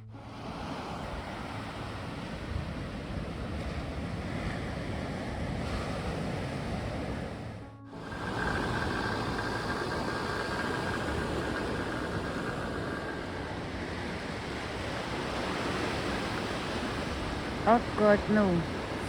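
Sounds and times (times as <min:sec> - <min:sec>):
waves breaking on a beach: 0:00.1 - 0:19.0.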